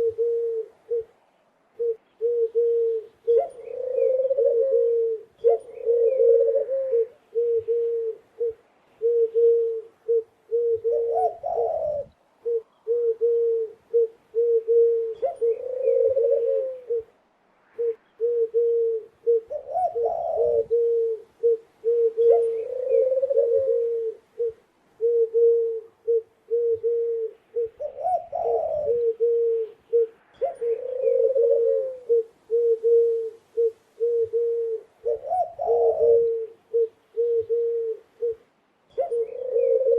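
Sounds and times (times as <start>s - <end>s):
dove cooing: 0.0s - 17.2s, 17.8s - 39.9s.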